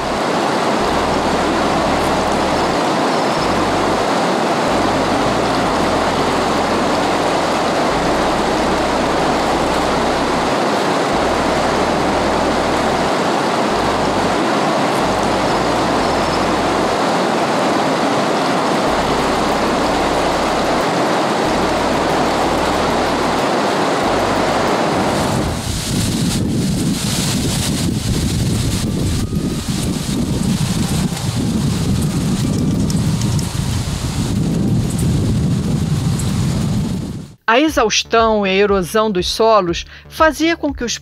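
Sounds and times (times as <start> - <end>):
river water rushing over rapids: 0.0 - 35.6.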